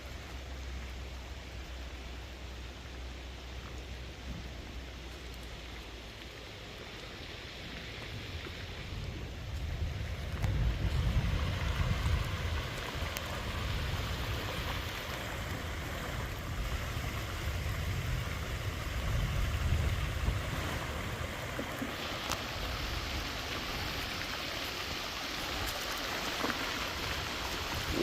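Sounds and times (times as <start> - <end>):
water rushing down channel: 0.0 - 28.0.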